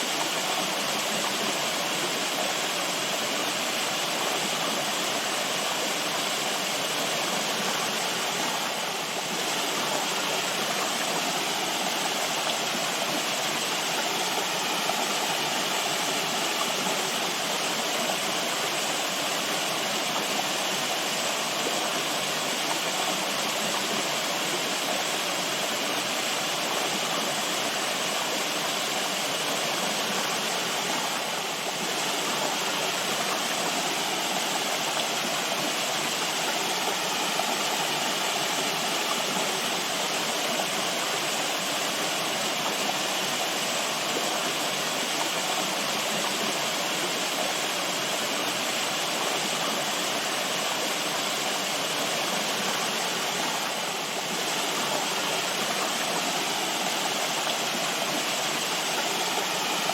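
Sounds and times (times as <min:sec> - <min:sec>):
running water flowing: 0:00.0 - 0:59.9.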